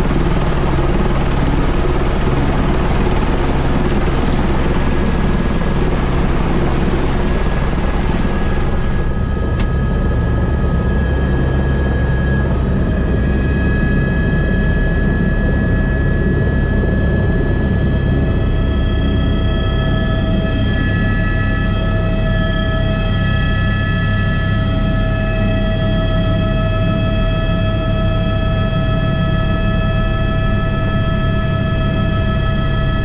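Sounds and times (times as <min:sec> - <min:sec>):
helicopter rotor beat: 0:00.0 - 0:33.0
turbine whine: 0:00.0 - 0:33.0.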